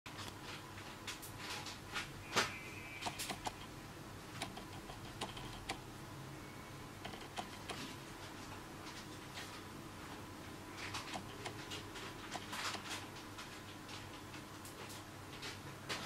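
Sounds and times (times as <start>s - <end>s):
faint room hum: 0.1s - 16.0s.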